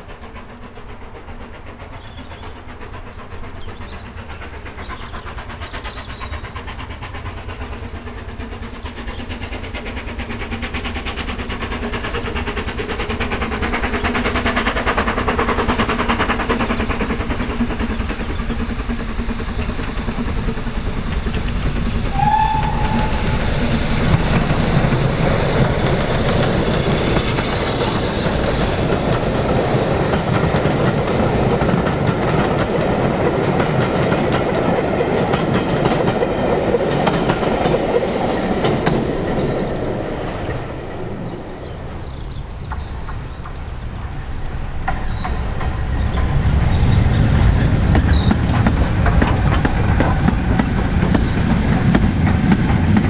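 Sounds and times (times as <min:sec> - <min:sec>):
steam hiss: 0:00.0 - 0:53.0
steam train approaching: 0:00.0 - 0:53.0.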